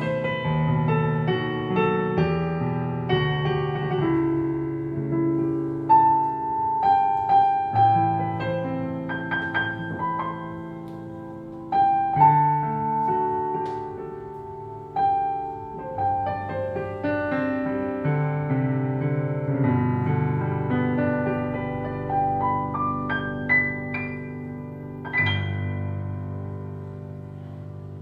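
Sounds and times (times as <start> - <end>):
piano playing slow melody: 0.0 - 28.0.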